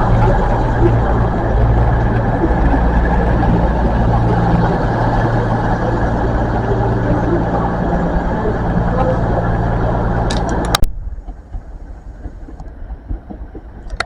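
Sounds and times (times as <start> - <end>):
diesel train engines running: 0.0 - 14.0.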